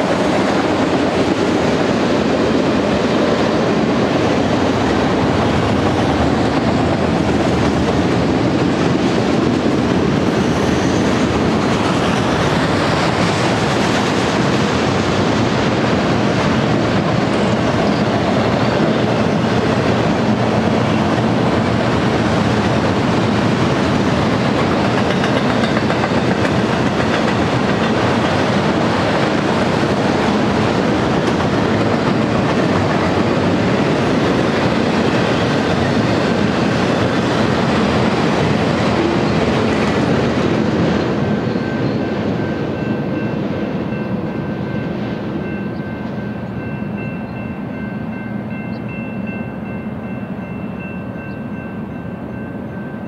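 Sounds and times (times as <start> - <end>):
freight train wheels clattering: 0.0 - 47.8.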